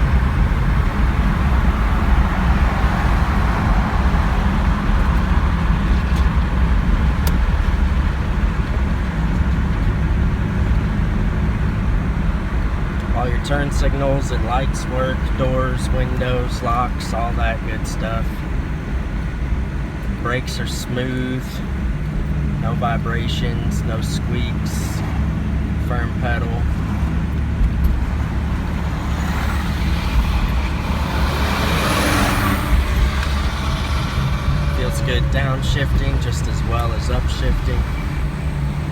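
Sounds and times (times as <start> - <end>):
car engine running: 0.0 - 38.9
tyre and road noise: 0.0 - 38.9.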